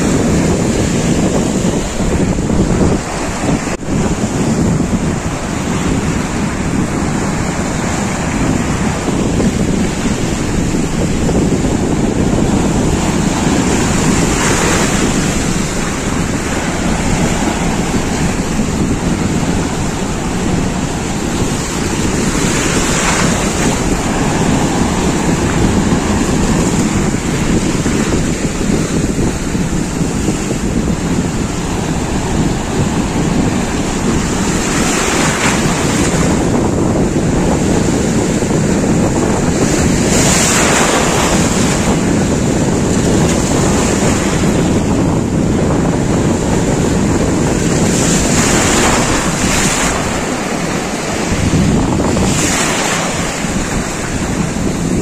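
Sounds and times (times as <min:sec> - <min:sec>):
sea surf breaking on rocks: 0:00.0 - 0:55.0
wind buffeting microphone: 0:00.0 - 0:55.0.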